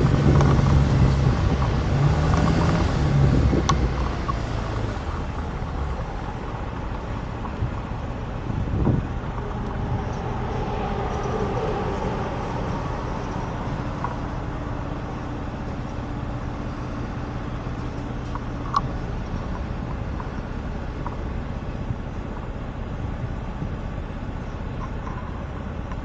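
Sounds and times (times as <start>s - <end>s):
road traffic hum: 0.0s - 26.0s.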